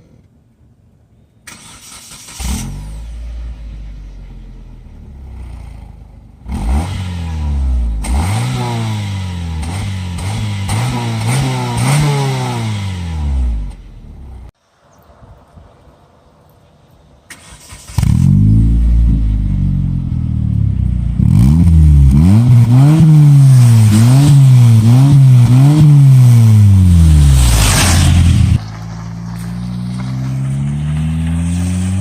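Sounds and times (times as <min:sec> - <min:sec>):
car engine revving: 0:01.6 - 0:14.4, 0:17.4 - 0:32.0.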